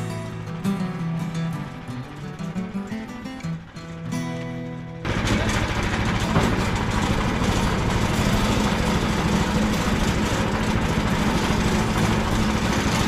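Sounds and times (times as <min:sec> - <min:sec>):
sawmill gas engine running: 0:00.0 - 0:13.0.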